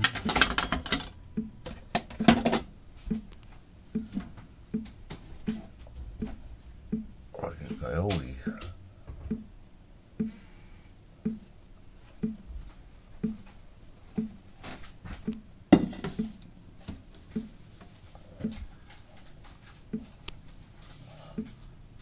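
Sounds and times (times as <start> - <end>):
soft regular ticking: 1.2 - 1.7, 3.0 - 14.5, 15.2 - 16.6, 17.2 - 22.0.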